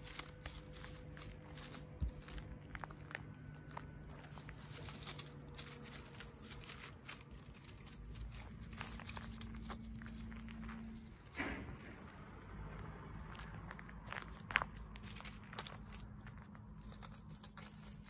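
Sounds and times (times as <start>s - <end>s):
cat crunching food: 0.0s - 18.0s
dry grass rustling: 0.0s - 18.0s
faint low hum: 0.0s - 18.0s.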